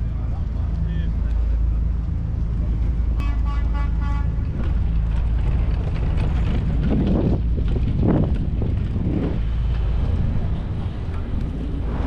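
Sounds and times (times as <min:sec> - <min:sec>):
bicycle rumbling on cobblestones: 0:00.0 - 0:12.0
wind buffeting microphone: 0:00.0 - 0:12.0.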